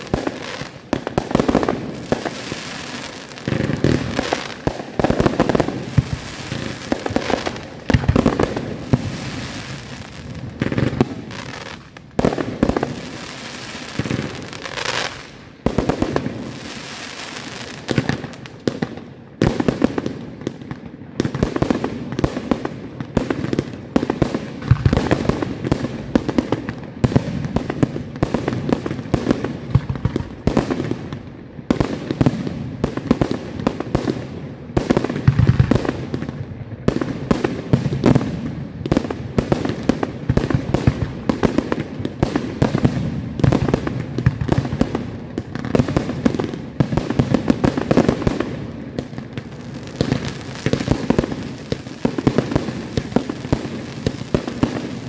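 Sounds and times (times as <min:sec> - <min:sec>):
fireworks bursting: 0:00.0 - 0:55.0
heavy fireworks booms: 0:00.0 - 0:55.0.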